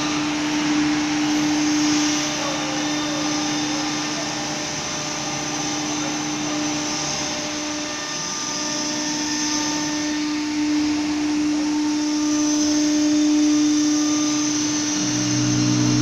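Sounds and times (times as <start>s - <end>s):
machine whine: 0.0s - 16.0s.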